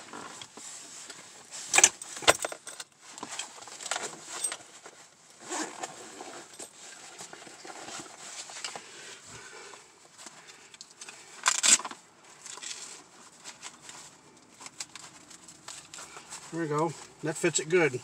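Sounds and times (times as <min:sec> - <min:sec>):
fabric holster rustling: 0:00.0 - 0:17.3.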